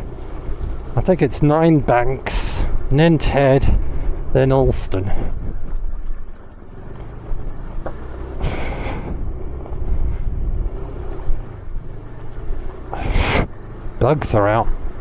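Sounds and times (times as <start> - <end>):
road and wind noise: 0.0 - 15.0
scooter engine running: 0.0 - 15.0.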